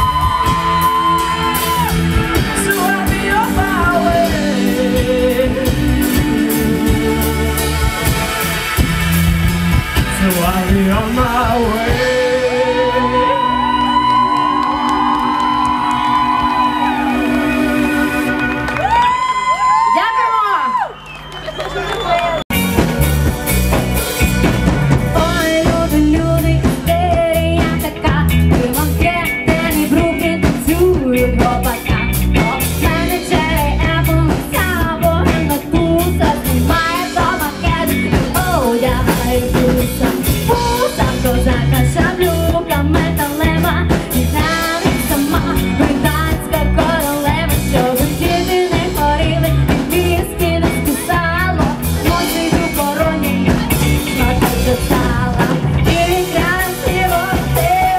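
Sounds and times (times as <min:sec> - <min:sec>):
drum kit beat: 0:00.0 - 0:19.9, 0:22.5 - 0:57.9
rock band playing live: 0:00.0 - 0:20.5, 0:21.4 - 0:57.9.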